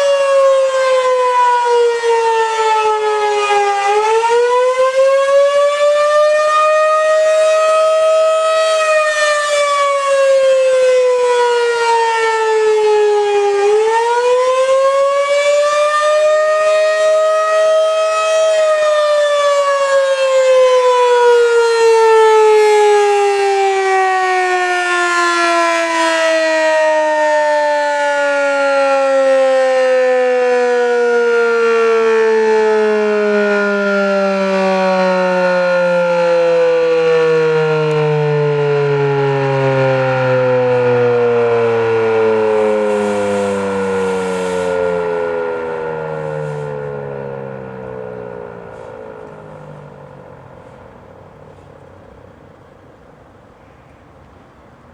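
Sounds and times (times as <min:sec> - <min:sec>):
outdoor warning siren wailing: 0:00.0 - 0:54.9.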